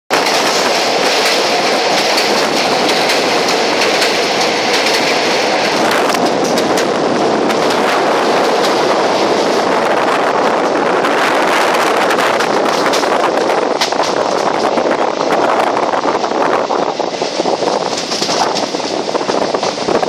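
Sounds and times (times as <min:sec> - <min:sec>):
wheels clicking over rail joints: 0:00.1 - 0:09.7, 0:11.4 - 0:15.0, 0:17.0 - 0:20.0
train rumbling at speed: 0:00.1 - 0:20.0.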